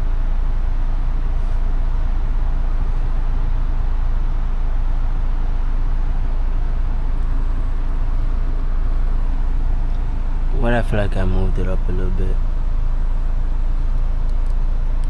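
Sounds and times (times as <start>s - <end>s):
low rumble of vehicles: 0.0s - 15.0s.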